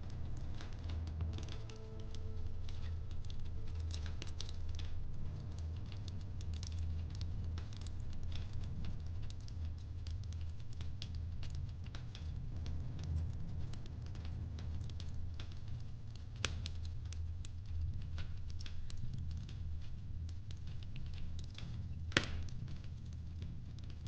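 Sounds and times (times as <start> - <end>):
fire popping and snapping: 0.0 - 24.0
low fire rumble: 0.0 - 24.0.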